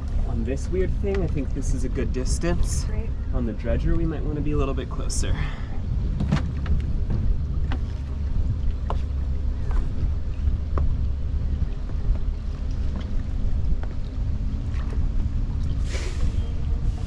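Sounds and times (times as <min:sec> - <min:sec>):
boat engine running: 0:00.0 - 0:17.0
wind on microphone: 0:00.0 - 0:17.0.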